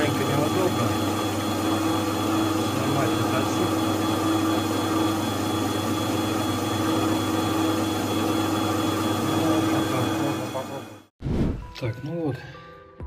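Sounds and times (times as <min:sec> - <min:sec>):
metal lathe humming and whining: 0:00.0 - 0:11.1.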